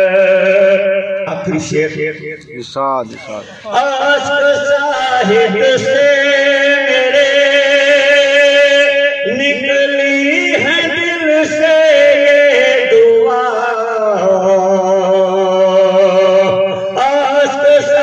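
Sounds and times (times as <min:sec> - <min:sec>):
man singing into a microphone: 0:00.0 - 0:02.6, 0:03.5 - 0:18.0.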